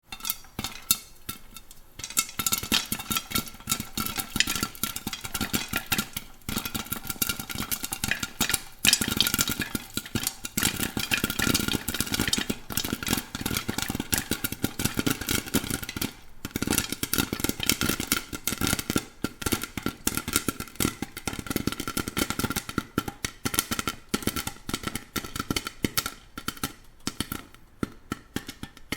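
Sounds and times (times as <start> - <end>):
popcorn popping: 0.0 - 28.9.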